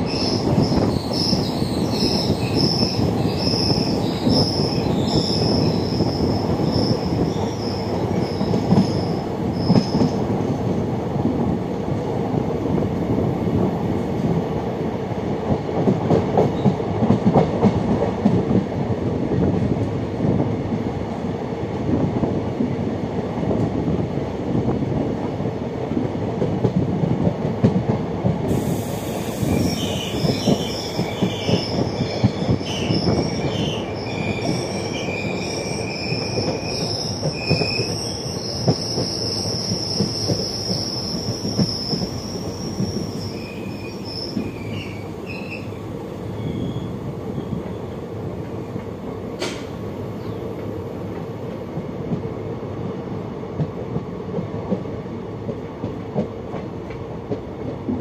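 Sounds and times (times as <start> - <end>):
train wheels rattling on rail: 0.0 - 58.0.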